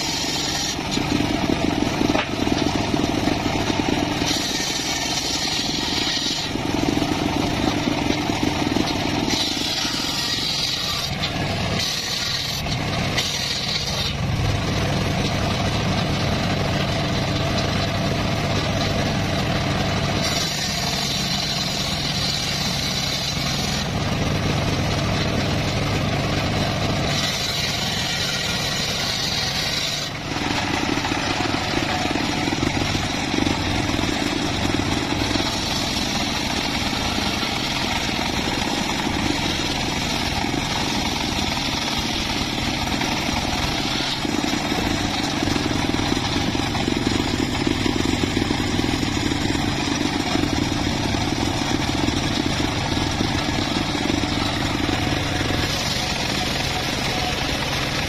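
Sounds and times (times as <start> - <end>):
circular saw blade cutting wood: 0.0 - 58.0.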